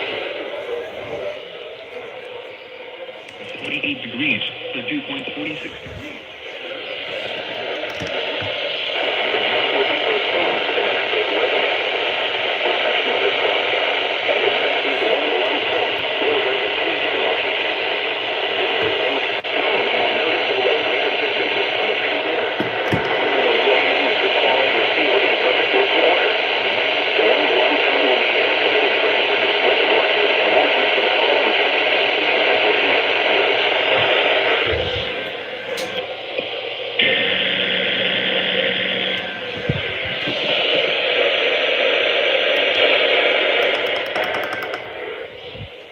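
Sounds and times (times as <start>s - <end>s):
radio static hiss: 0.0s - 45.9s.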